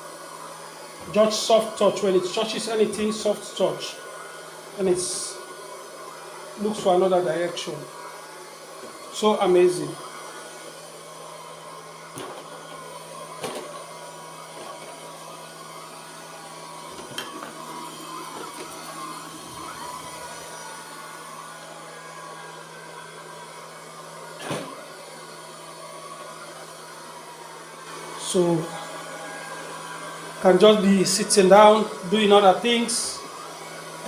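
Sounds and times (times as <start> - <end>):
robot vacuum cleaner running: 0.0 - 34.0.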